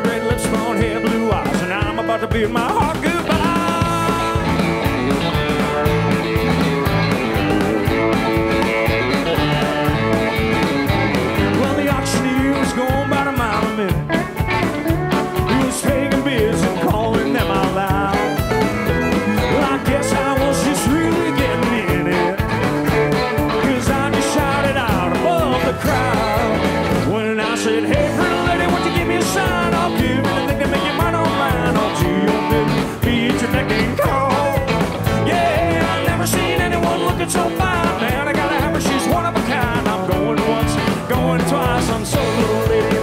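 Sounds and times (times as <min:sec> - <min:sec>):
bass: 0:00.0 - 0:43.0
electric guitar: 0:00.0 - 0:43.0
fiddle: 0:00.0 - 0:43.0
steady drum beat: 0:00.0 - 0:43.0.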